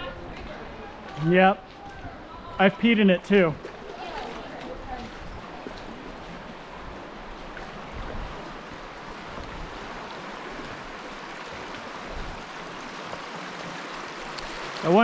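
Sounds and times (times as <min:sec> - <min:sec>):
creek water rushing: 0:02.5 - 0:15.0.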